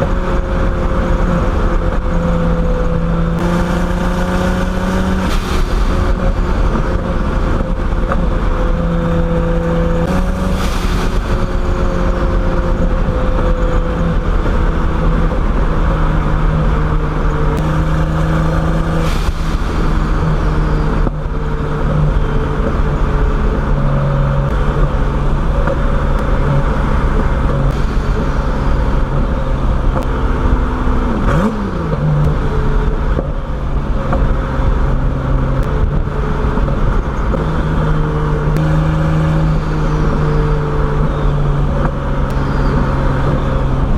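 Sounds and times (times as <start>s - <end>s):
turbocharged car engine cruising: 0.0s - 43.9s.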